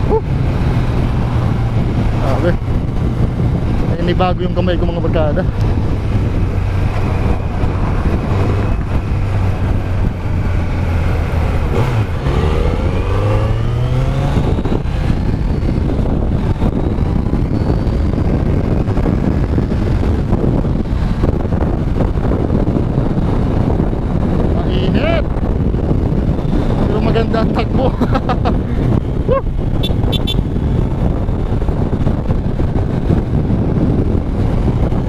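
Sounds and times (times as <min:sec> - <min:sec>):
motorcycle engine accelerating: 0:00.0 - 0:35.0
wind rush on microphone: 0:00.0 - 0:35.0.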